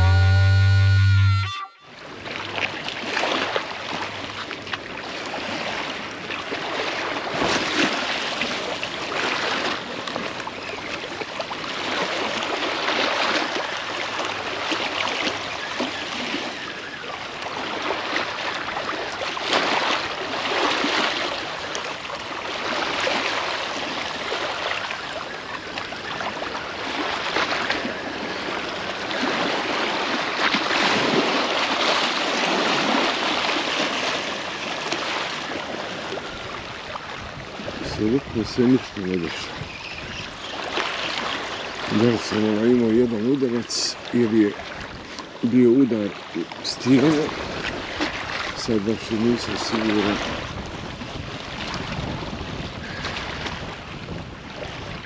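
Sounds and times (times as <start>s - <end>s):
waves washing over pebbles: 4.9s - 15.4s, 17.4s - 39.6s, 40.4s - 55.0s.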